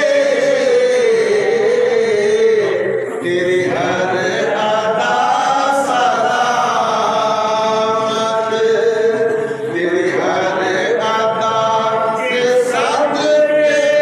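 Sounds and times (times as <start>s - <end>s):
men chanting unaccompanied: 0.0s - 14.0s.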